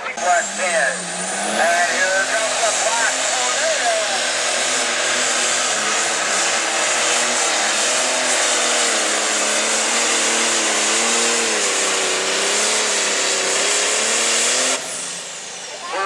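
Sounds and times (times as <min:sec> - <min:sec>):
diesel tractor engine roaring: 0:00.0 - 0:16.0
turbo and exhaust rush: 0:00.0 - 0:16.0.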